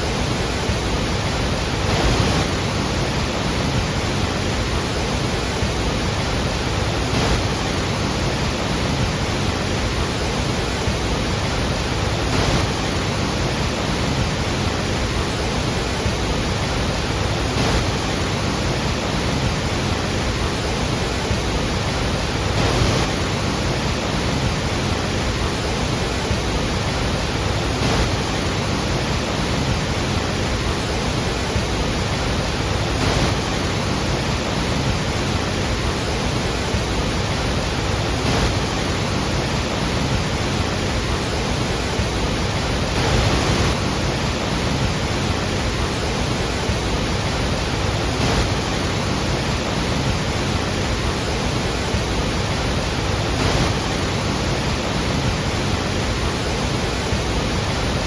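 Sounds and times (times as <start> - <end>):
waterfall roar: 0.0 - 58.0.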